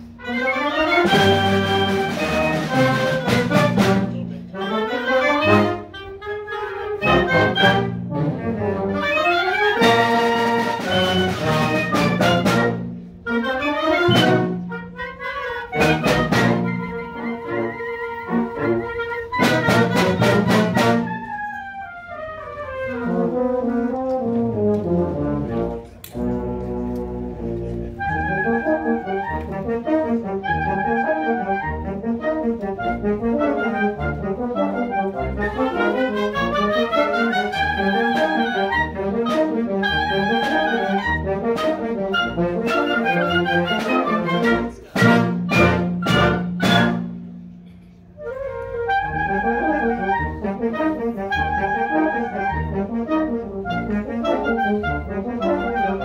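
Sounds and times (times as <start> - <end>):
concert band playing: 0.0 - 21.6, 22.9 - 47.3.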